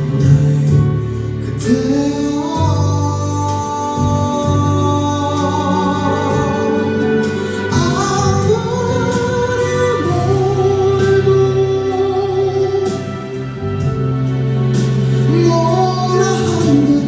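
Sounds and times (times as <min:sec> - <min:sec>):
instrumental accompaniment: 0:00.0 - 0:17.0
man singing a slow ballad: 0:00.0 - 0:17.0.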